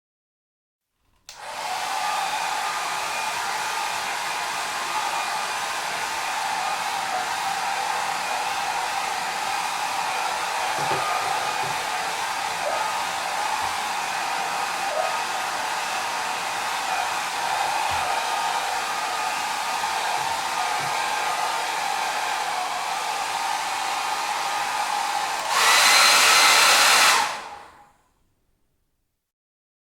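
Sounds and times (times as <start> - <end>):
hair dryer blowing: 1.2 - 27.9.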